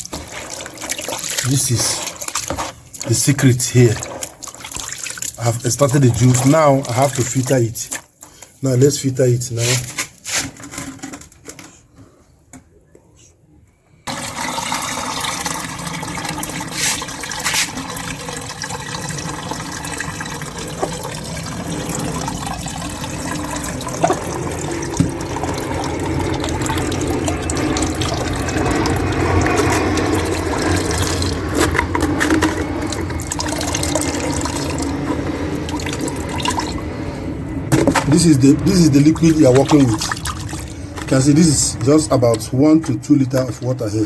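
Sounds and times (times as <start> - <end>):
liquid pouring and splashing: 0.0 - 8.6, 14.1 - 37.0, 37.7 - 44.0.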